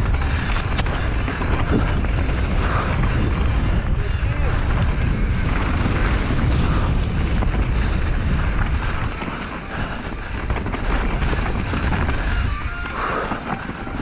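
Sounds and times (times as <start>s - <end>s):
heavy rumble: 0.0s - 14.0s
wind buffeting microphone: 0.0s - 14.0s.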